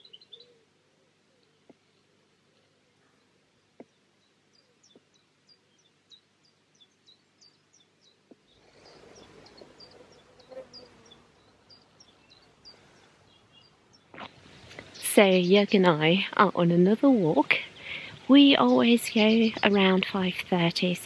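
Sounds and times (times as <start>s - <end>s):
faint distant songbird singing: 0.0s - 21.0s
low hiss of wind: 0.0s - 21.0s.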